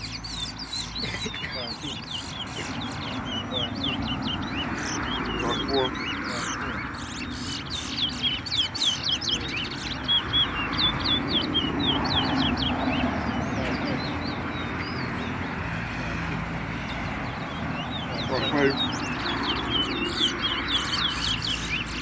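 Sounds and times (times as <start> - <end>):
songbirds whistling: 0.0 - 22.0.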